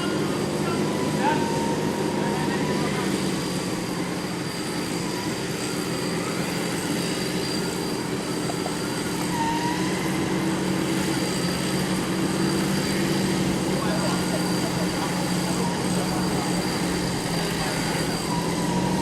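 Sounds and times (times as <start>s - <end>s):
vehicle engine running steadily: 0.0s - 19.0s.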